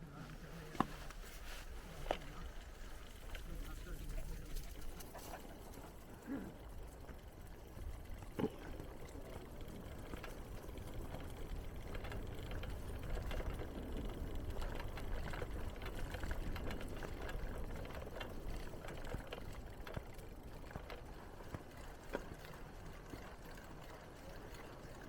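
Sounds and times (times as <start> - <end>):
bicycle tyres rumbling: 0.0 - 25.0
bicycle clicks and rattles: 0.2 - 25.0.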